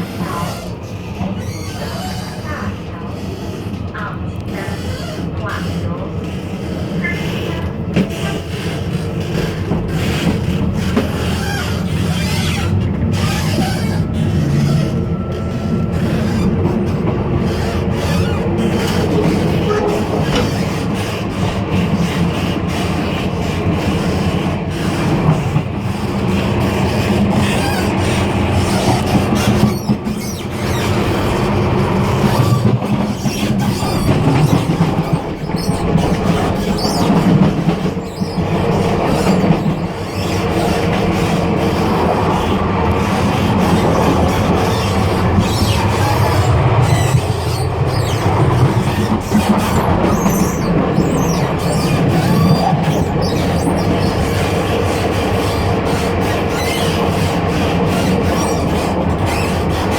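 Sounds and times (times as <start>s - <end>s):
train running rumble and rattling: 0.0s - 59.9s.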